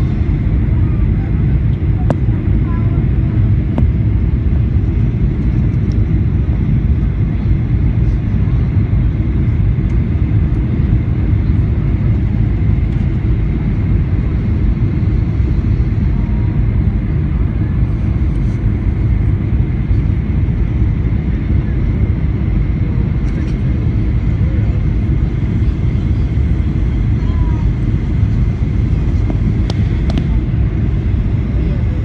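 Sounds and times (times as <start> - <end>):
aircraft engines and rushing air: 0.0 - 32.0.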